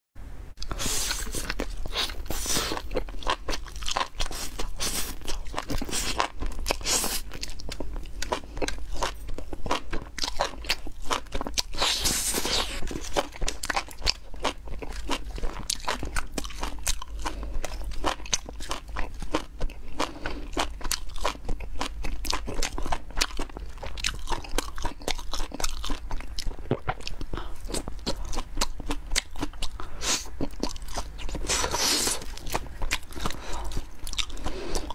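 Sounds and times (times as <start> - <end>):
low steady hum: 0.2 - 34.9
person chewing crunchily: 0.6 - 34.9.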